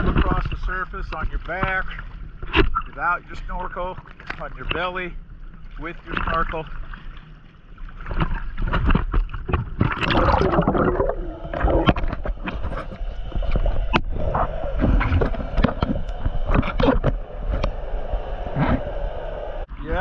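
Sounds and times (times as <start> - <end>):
water splashing and gurgling: 0.0 - 20.0.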